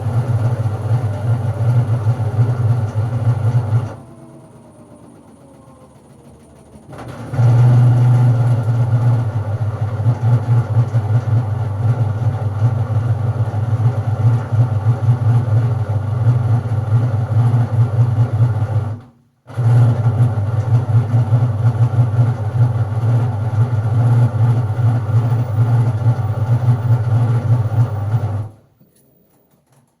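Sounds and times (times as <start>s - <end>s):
washing machine droning: 0.0s - 30.0s.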